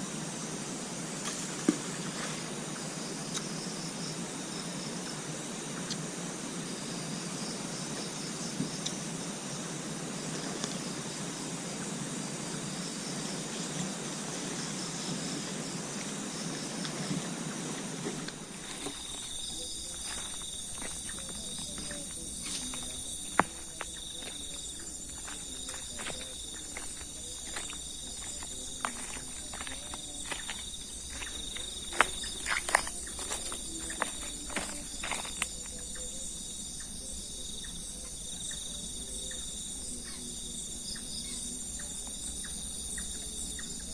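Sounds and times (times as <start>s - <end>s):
constant hiss: 0.0s - 43.9s
insects chirping: 0.0s - 43.9s.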